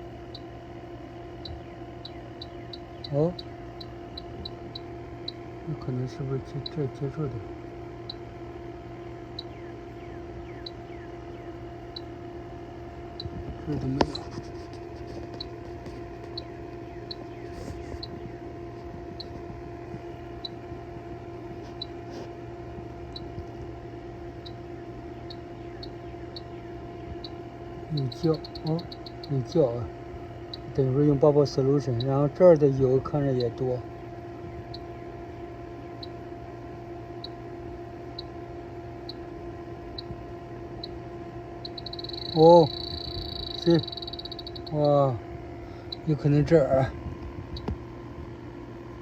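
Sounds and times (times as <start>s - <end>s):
leak detector ticking: 0.0s - 22.1s, 23.0s - 47.9s
steady low hum: 0.0s - 49.0s.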